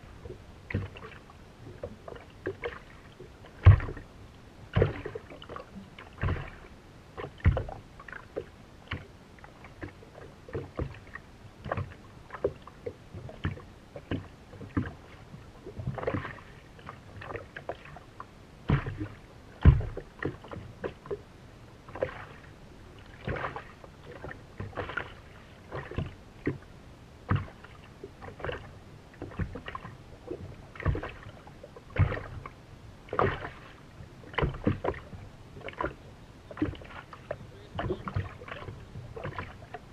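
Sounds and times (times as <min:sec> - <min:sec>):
waves slapping boat hull: 0:00.0 - 0:39.9.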